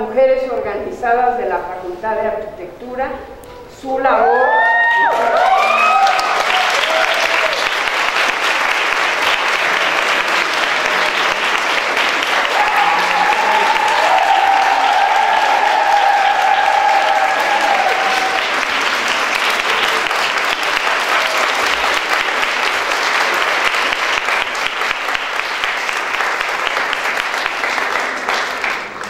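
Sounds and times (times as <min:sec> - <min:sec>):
people clapping: 0:04.3 - 0:29.0.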